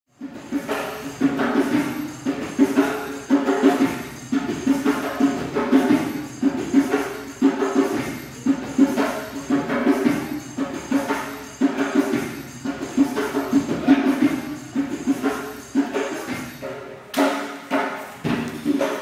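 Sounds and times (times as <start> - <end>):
drums in steady rhythm: 0.1 - 19.0.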